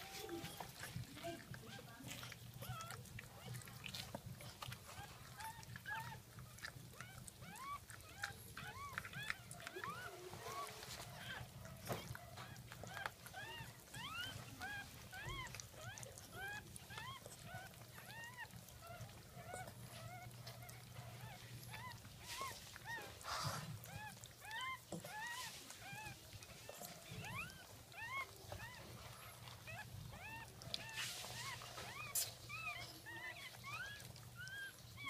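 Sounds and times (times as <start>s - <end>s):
faint low hum: 0.0s - 35.0s
puppies squeaking: 0.0s - 35.0s.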